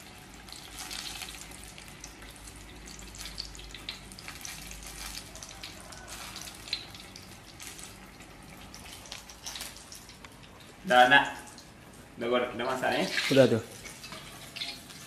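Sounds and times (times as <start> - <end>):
deep-frying sizzle with crackles: 0.0 - 15.0.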